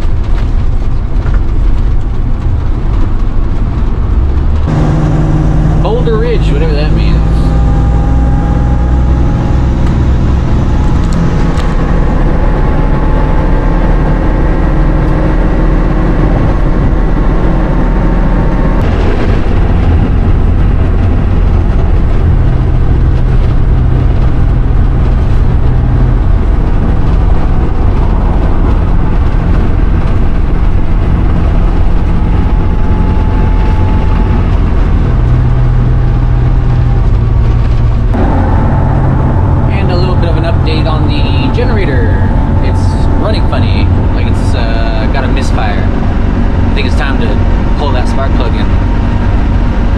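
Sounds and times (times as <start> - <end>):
engine and road rumble: 0.0 - 49.9
faint whine: 0.0 - 49.9.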